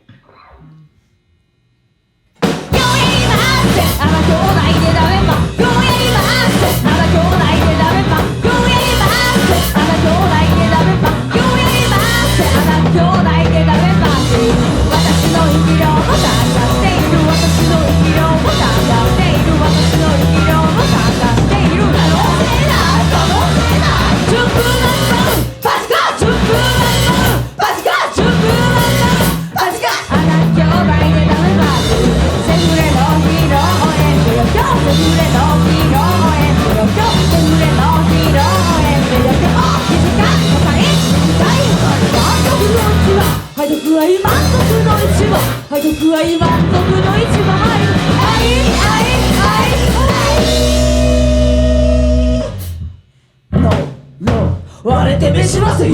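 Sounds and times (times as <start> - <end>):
punk rock band playing: 2.4 - 52.8
person yelling and singing: 2.7 - 52.7, 53.6 - 55.9.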